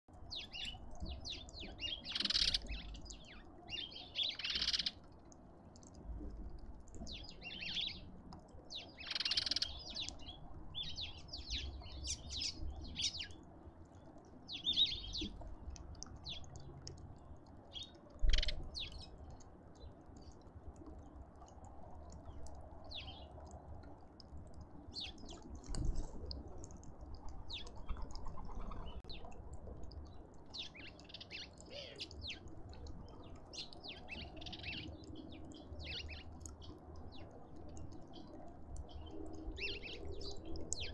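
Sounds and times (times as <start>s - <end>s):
birds chirping: 0.3s - 5.0s, 6.9s - 20.9s, 24.9s - 40.9s.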